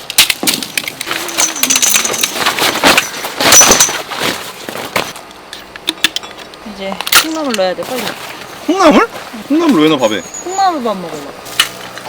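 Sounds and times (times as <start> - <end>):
camping gear clattering: 0.0 - 10.2.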